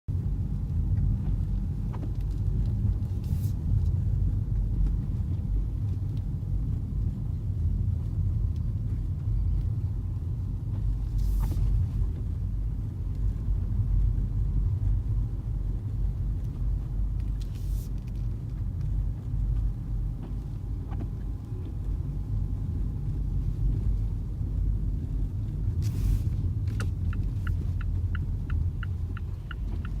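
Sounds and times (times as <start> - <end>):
car engine and tyres rumbling: 0.1 - 30.0.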